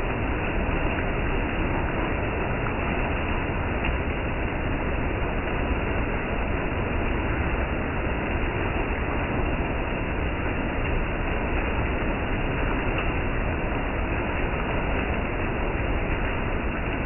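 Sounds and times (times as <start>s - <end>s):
rain on stone paving: 0.0s - 17.0s.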